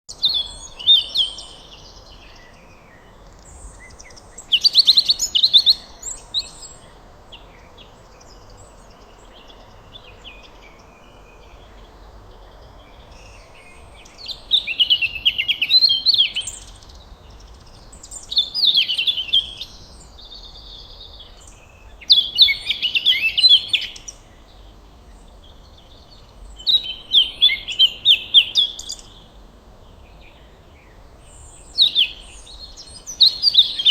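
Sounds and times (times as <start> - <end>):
birds chirping: 0.1 - 33.9
faint steady hiss: 0.1 - 33.9.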